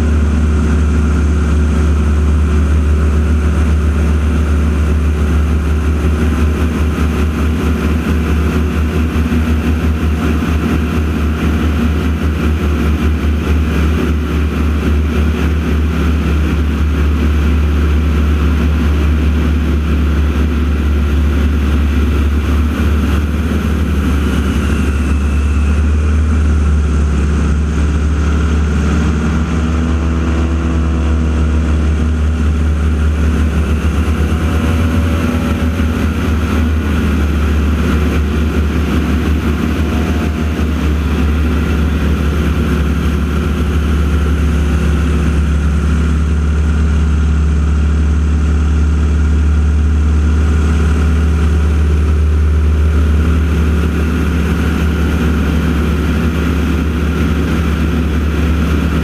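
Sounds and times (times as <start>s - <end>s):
propeller airplanes droning: 0.0s - 59.0s.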